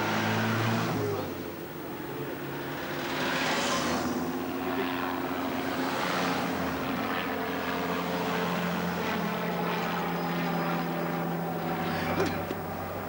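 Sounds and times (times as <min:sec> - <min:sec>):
helicopter engine and rotor drone: 0:01.0 - 0:13.0.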